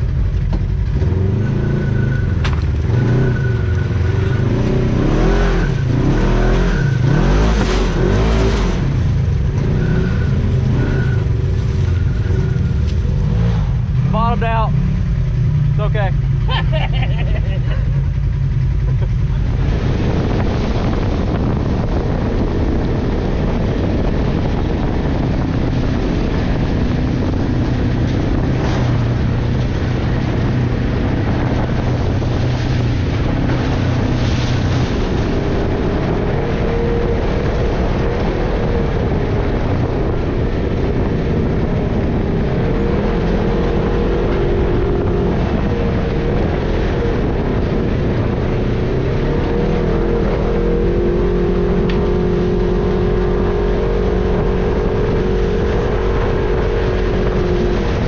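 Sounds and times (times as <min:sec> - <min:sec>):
off-road vehicle engine running: 0:00.0 - 0:58.0
wind buffeting microphone: 0:00.0 - 0:58.0.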